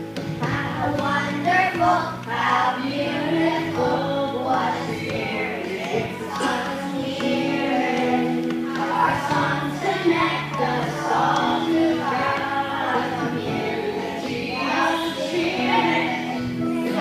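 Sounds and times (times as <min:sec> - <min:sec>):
instrumental accompaniment: 0:00.0 - 0:17.0
choir singing: 0:00.6 - 0:17.0.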